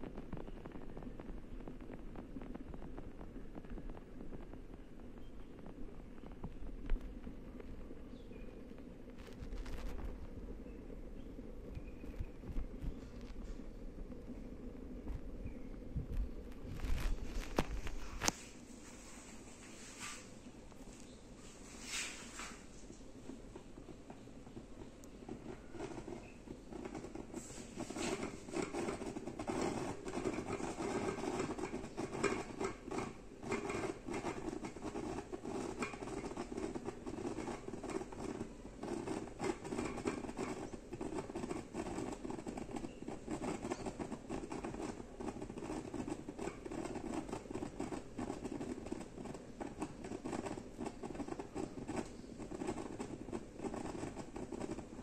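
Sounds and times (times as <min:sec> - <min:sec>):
rice cooker boiling with pops: 0:00.0 - 0:55.0.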